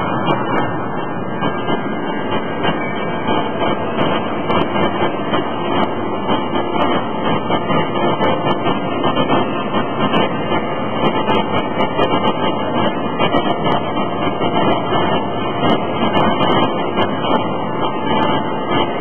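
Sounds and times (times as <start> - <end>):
hydraulic forging hammers pounding: 0.0 - 19.0.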